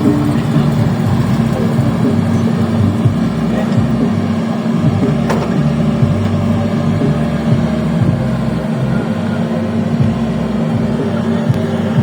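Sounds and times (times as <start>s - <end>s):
heavy bass from subwoofers: 0.0s - 12.0s
steady low hum: 0.0s - 12.0s.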